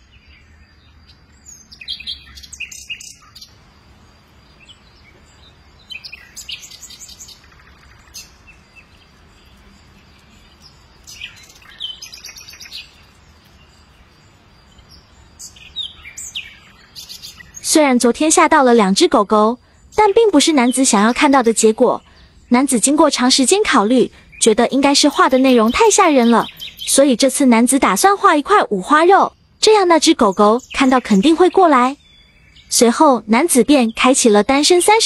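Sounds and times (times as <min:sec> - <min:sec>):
birds chirping: 0:00.0 - 0:35.0
faint outdoor background noise: 0:00.0 - 0:35.0.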